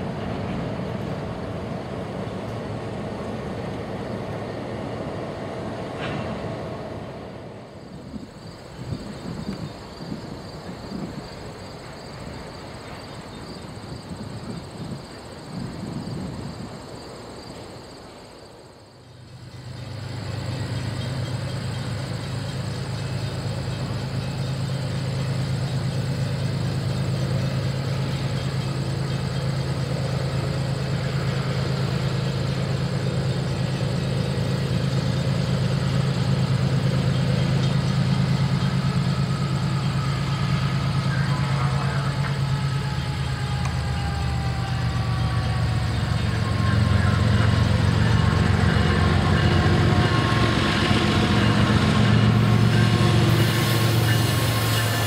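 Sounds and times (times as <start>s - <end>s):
diesel locomotive rumble: 0.0s - 55.0s.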